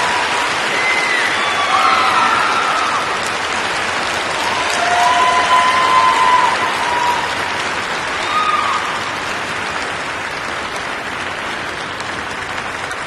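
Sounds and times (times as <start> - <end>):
crowd applauding: 0.0 - 13.0
crowd cheering: 0.0 - 13.0.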